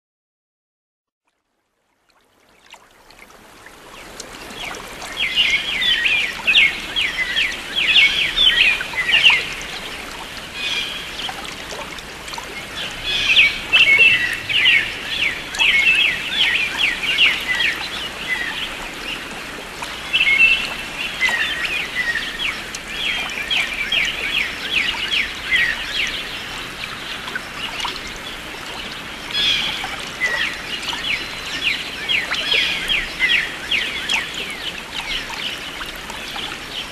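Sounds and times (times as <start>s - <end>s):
trickle of running water: 1.2s - 36.9s.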